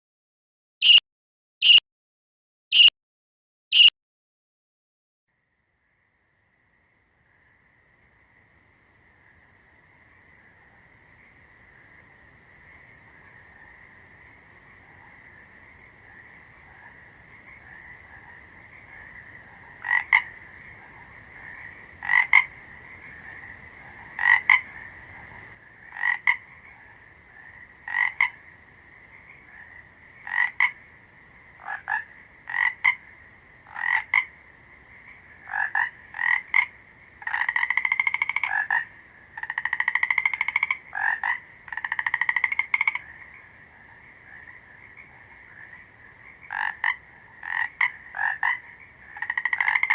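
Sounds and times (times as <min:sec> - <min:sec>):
frog croaking and trilling: 0:02.7 - 0:02.9, 0:03.7 - 0:03.9, 0:05.8 - 0:49.9.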